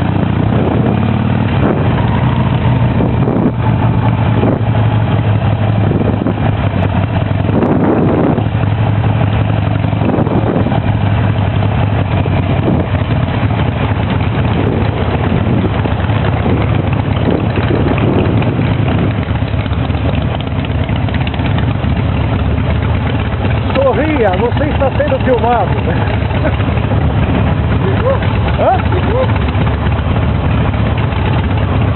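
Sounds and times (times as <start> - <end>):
motorcycle engines running: 0.0 - 31.9.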